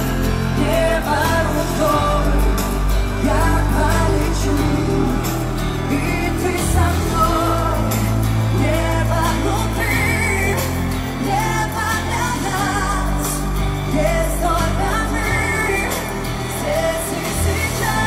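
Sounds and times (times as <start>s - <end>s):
live band with electric guitar: 0.0s - 18.0s
woman singing into microphone: 0.5s - 18.0s.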